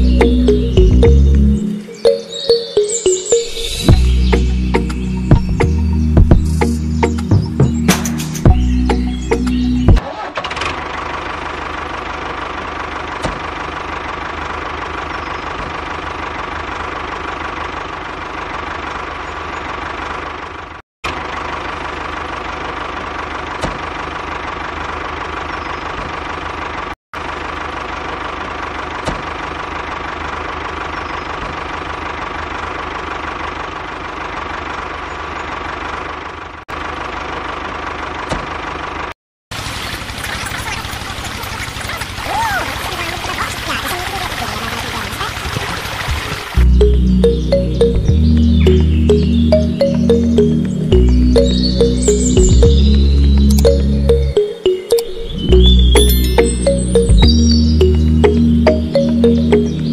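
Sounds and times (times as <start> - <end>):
small tractor engine running: 3.9 - 54.4.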